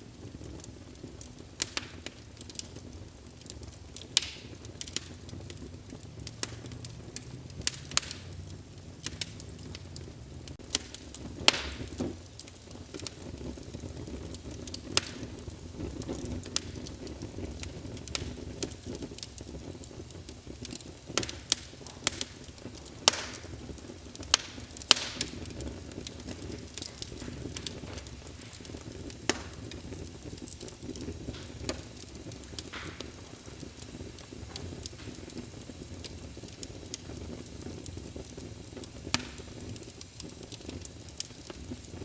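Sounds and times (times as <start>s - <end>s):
fire pops and snaps: 0.0s - 42.0s
low rumble of flames: 0.0s - 42.0s
wood fire crackling: 0.0s - 42.0s.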